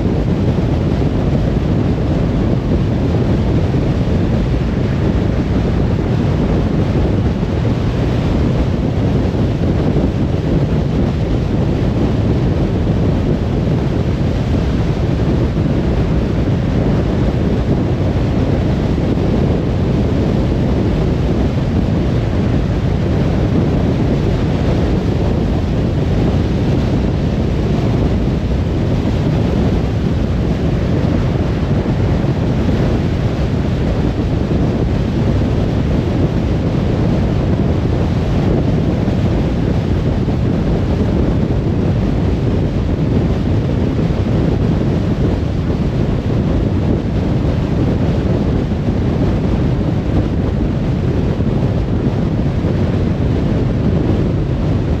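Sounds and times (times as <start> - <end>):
car tyre and wind noise: 0.0 - 55.0.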